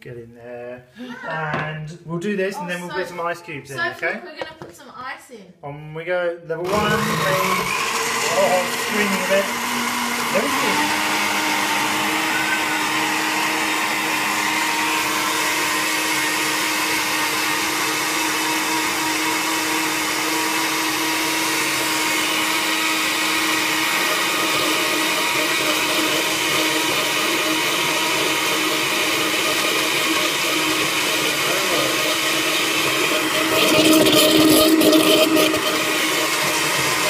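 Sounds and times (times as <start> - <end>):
blender motor whining: 6.6 - 37.0.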